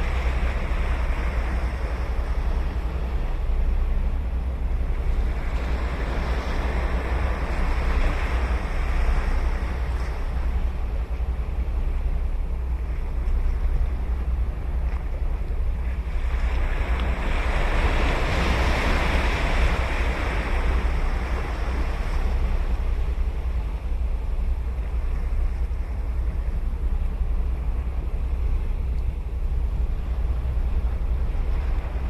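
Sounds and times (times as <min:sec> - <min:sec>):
wind rumble on microphone: 0:00.0 - 0:32.0.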